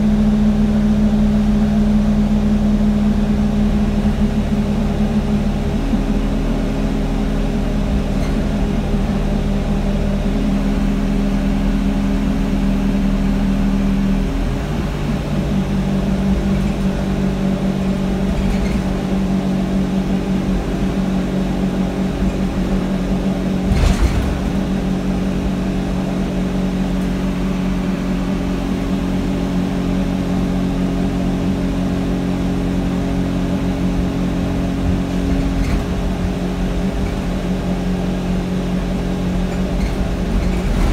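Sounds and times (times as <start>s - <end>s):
bus engine and cooling fan drone: 0.0s - 40.9s.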